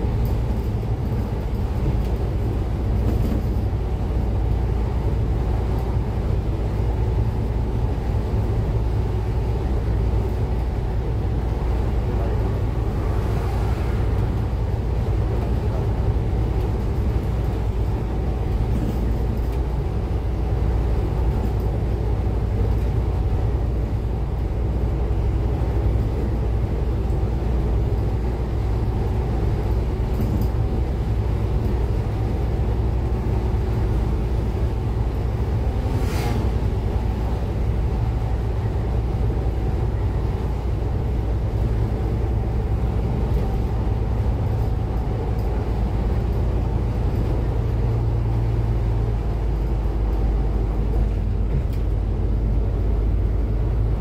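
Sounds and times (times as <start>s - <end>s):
diesel bus engine rumbling: 0.0s - 54.0s.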